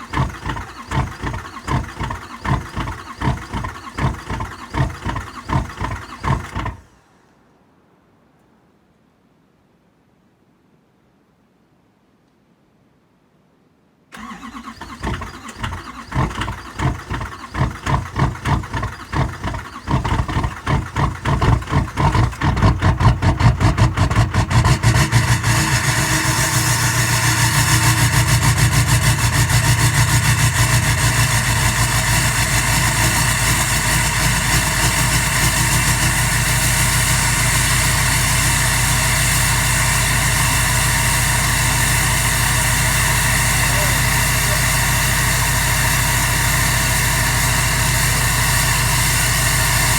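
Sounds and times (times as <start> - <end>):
starter motor cranking: 0.0 - 7.0, 14.2 - 49.9
diesel engine idling: 0.0 - 7.1, 14.2 - 49.9.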